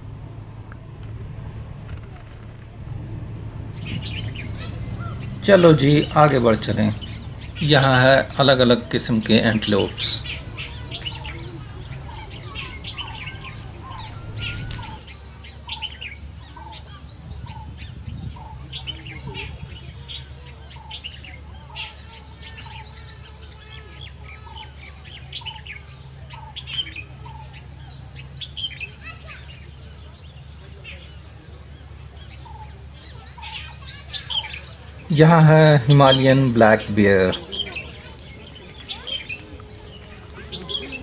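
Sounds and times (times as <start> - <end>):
steady low hum: 0.0 - 41.0
birds chirping: 3.7 - 41.0
low repeated bird call: 3.7 - 41.0.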